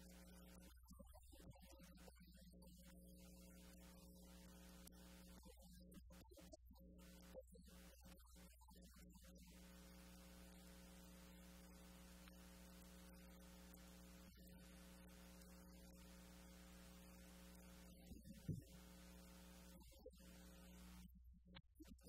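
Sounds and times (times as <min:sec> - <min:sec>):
low electrical hum: 0:00.0 - 0:00.8, 0:01.4 - 0:21.2.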